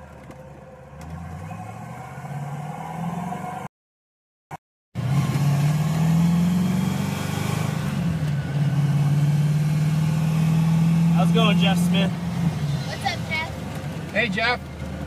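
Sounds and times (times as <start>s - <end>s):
car engine heard from cabin: 0.0s - 3.7s, 5.0s - 15.0s.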